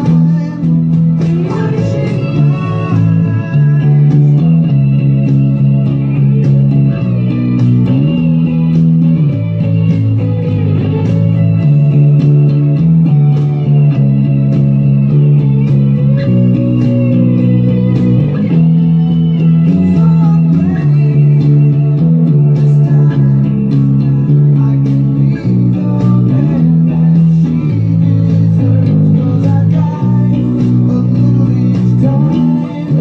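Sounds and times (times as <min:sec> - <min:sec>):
electric bass playing deep notes: 0:00.0 - 0:33.0
recorded band track: 0:00.0 - 0:33.0.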